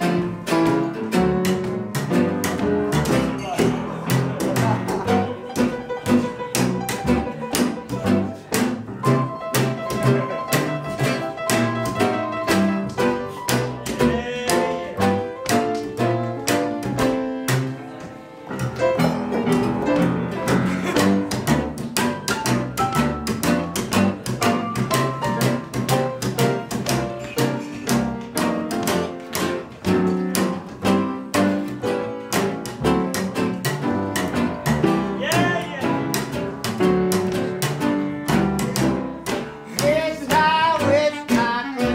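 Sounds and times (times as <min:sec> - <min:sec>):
plucked double bass: 0:00.0 - 0:41.9.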